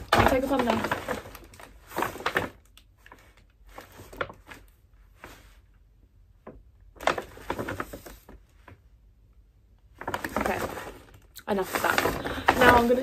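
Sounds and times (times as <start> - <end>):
paper bag rustling and crinkling: 0.0 - 5.8, 6.5 - 8.8, 9.9 - 13.0.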